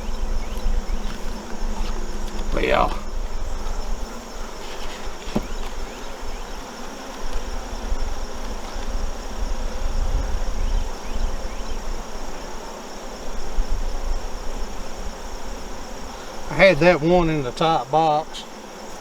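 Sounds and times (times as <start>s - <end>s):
bee passing close: 0.0s - 19.0s
bees buzzing: 0.0s - 19.0s.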